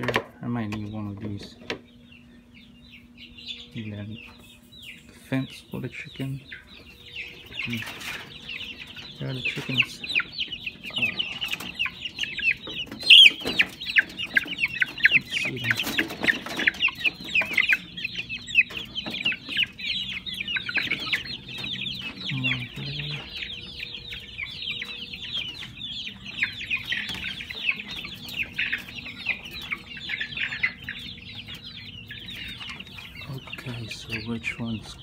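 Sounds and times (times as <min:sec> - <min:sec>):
baby chicks peeping: 0:00.0 - 0:35.0.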